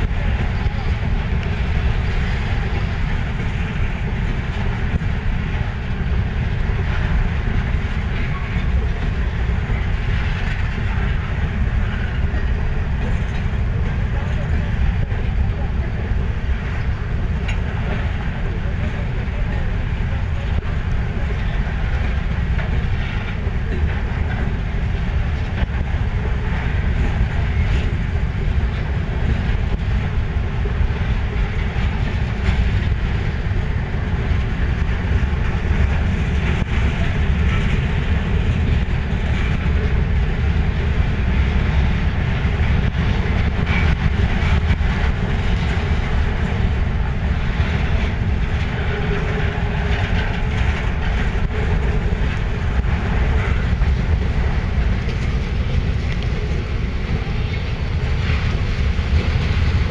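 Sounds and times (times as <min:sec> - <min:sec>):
train wheels rumbling on rails: 0:00.0 - 0:59.9
wheels clicking over rail joints: 0:00.0 - 0:59.9.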